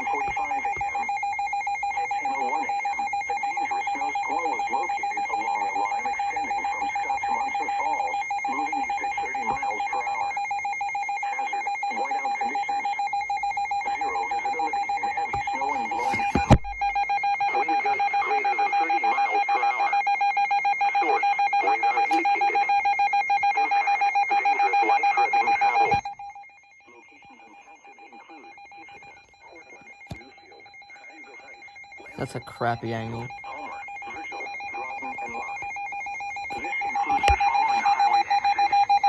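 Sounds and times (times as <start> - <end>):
pulsing high alarm tone: 0.0 - 39.0.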